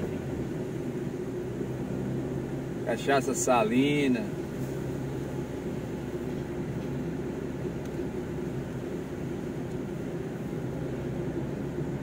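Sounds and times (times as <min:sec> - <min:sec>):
engine and road noise in cabin: 0:00.0 - 0:12.0.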